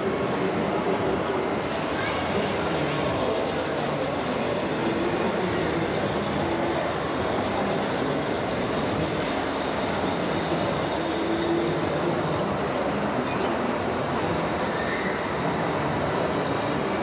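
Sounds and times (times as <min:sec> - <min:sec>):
busy indoor hall din: 0:00.0 - 0:17.0.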